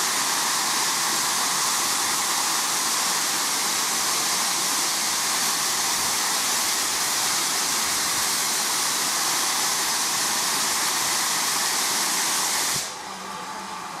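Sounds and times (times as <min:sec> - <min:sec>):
steam hissing from safety valves: 0:00.0 - 0:13.8.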